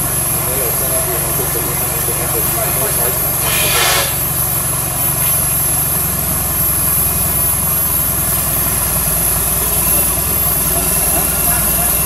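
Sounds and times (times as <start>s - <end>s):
engine idling low rumble: 0.0s - 3.5s, 4.1s - 12.0s.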